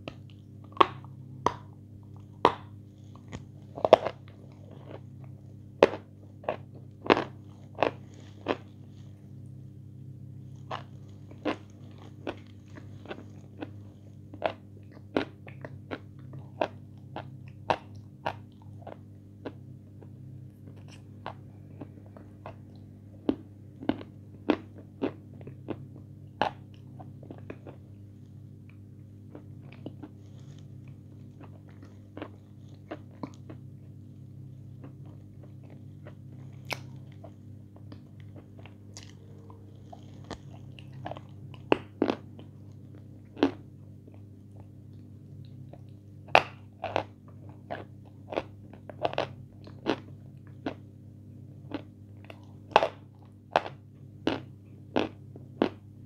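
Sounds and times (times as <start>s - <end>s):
crunchy biting and chewing: 0.0s - 9.2s, 10.5s - 27.9s, 29.3s - 50.9s, 51.5s - 55.9s
low steady hum: 0.0s - 56.0s.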